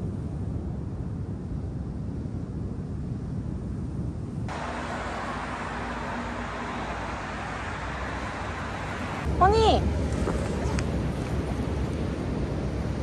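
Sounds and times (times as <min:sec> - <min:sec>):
outdoor rumble and hiss: 0:00.0 - 0:13.0.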